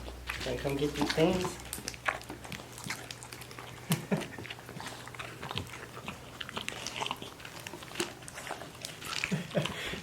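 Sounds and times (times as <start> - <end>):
pet chewing crunchy food: 0.0 - 10.0.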